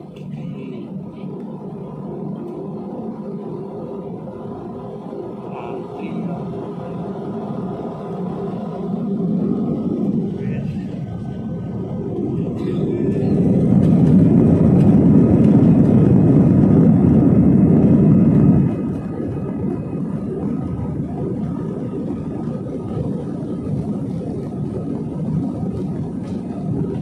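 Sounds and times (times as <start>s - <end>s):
faint steady whine: 0.0s - 27.0s
jet engines and rolling noise: 0.0s - 27.0s.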